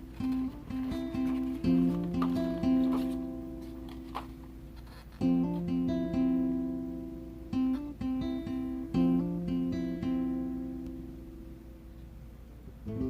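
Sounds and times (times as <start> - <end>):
solo acoustic guitar: 0.0 - 13.0.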